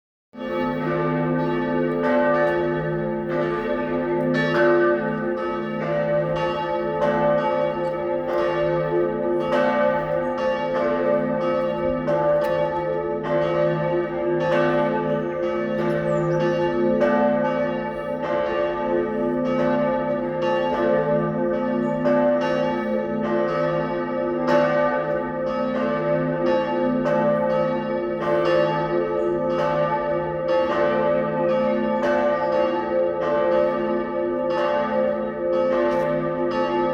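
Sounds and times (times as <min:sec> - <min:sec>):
church bells pealing: 0:00.4 - 0:36.9.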